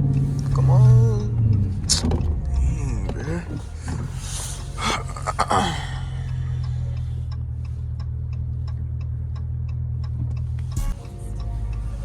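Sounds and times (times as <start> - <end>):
car cabin hum: 0.0 - 12.0
turn signal clicking: 0.0 - 12.0.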